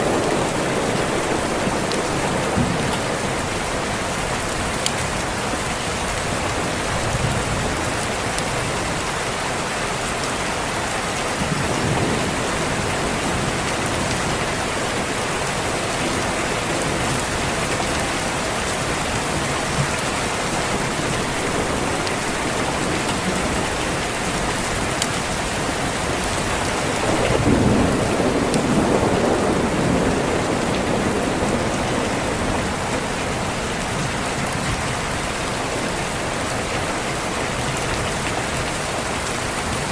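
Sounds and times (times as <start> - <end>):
thunder rumbling: 0.0 - 9.4, 11.2 - 36.6
rain hiss: 0.0 - 39.9.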